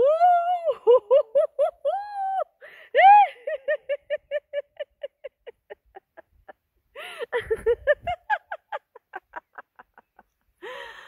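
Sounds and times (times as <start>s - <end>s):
woman laughing: 0.0s - 11.0s.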